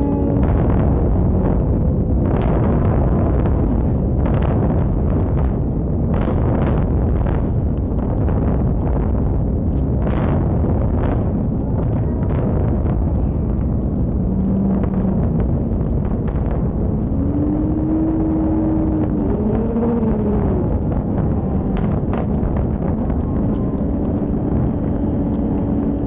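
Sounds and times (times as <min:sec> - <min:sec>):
low rumble of building collapse: 0:00.0 - 0:26.0
wind noise on microphone: 0:00.0 - 0:26.0
faint explosive pops: 0:00.3 - 0:17.9, 0:18.6 - 0:26.0.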